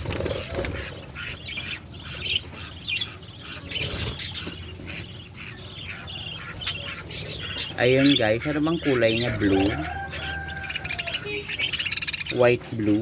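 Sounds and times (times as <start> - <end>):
budgerigars squawking and chirping: 0.0 - 13.0.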